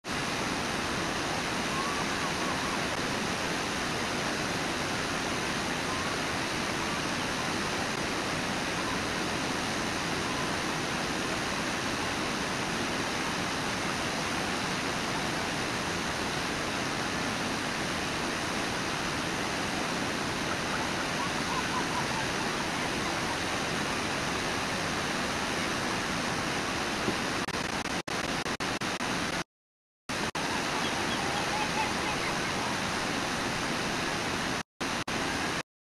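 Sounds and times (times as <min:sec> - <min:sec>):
rushing water: 0:00.0 - 0:29.5, 0:30.1 - 0:35.6.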